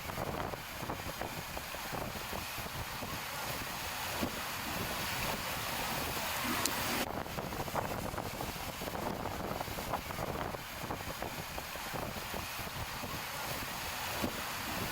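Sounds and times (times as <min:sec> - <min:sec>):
low rumble of boats: 0:00.0 - 0:14.9
wind buffeting microphone: 0:00.0 - 0:14.9.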